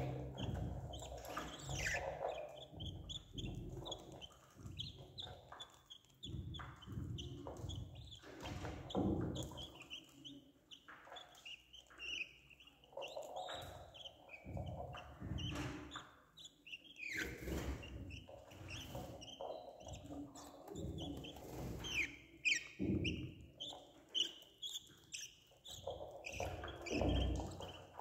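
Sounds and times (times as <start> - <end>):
budgerigar chicks chirping: 0.0 - 28.0.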